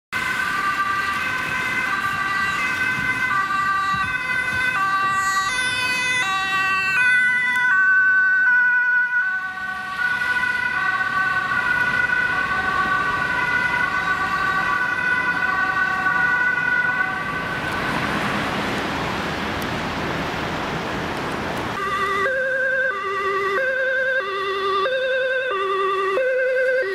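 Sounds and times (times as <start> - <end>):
ambulance two-tone siren: 0.1 - 18.2, 21.8 - 26.9
road traffic rush: 0.1 - 26.9.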